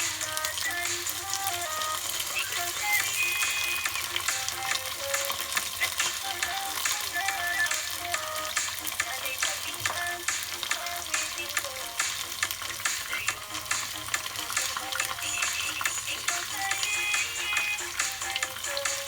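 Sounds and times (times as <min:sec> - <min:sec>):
chicken frying in hot oil: 0:00.0 - 0:19.0.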